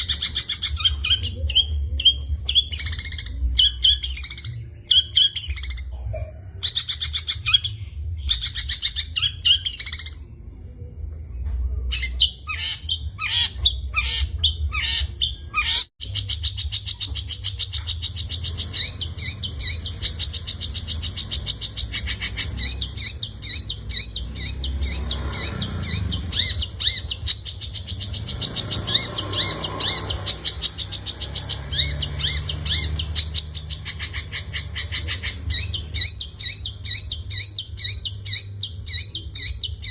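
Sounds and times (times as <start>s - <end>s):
bird singing with mimicked calls: 0.0s - 10.7s, 11.8s - 39.9s.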